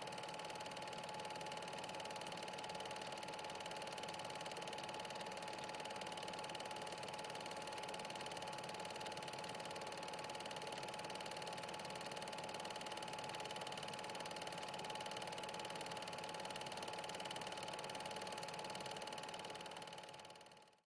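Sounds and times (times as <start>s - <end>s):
small machine whining and whirring: 0.0s - 20.8s.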